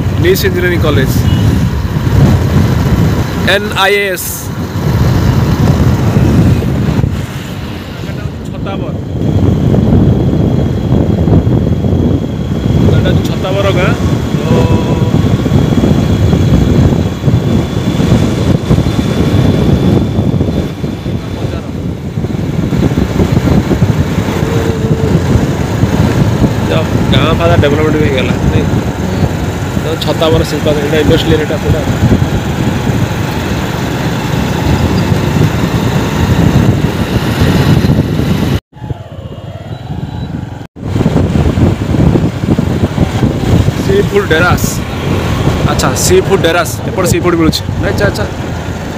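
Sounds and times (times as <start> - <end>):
motorcycle engine: 0.0 - 48.9
road noise: 0.0 - 48.9
wind buffeting microphone: 0.0 - 48.9.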